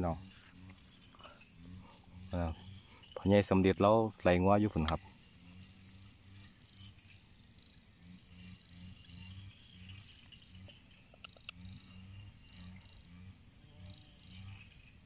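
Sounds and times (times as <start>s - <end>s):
frogs croaking: 0.0s - 15.0s
insects chirping: 0.0s - 15.0s.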